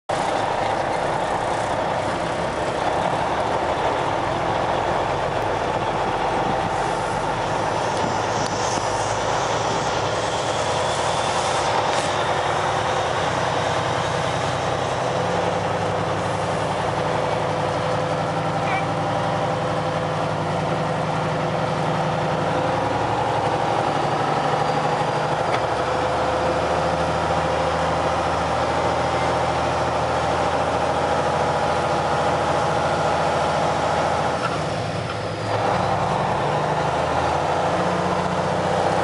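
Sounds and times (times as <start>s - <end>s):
truck diesel engine running: 0.1s - 39.0s
tyre and road noise: 0.1s - 39.0s.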